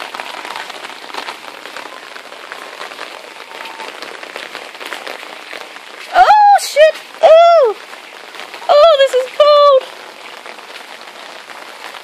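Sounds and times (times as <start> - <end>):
water dripping onto leaves and paving: 0.0 - 12.0.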